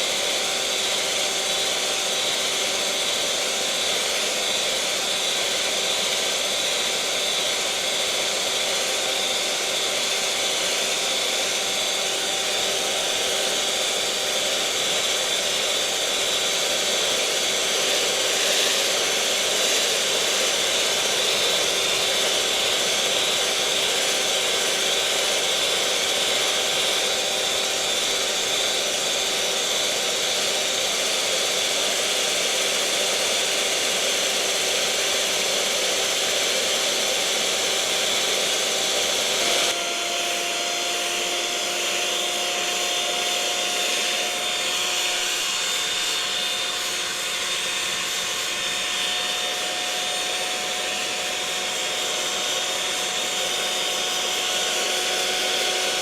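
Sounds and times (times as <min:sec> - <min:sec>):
electric mixer motor whirring: 0:00.0 - 0:56.0.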